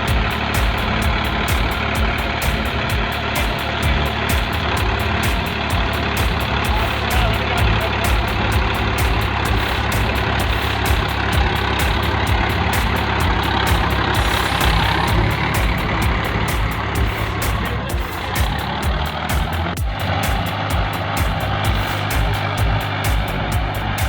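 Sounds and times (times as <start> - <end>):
tractor diesel engine clattering: 0.0 - 24.0.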